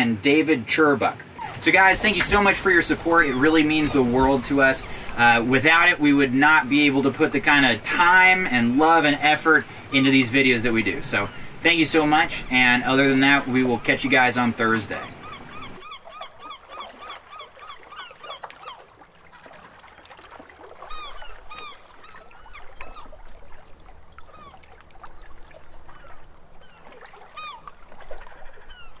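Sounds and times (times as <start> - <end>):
birds calling: 1.2 - 29.0.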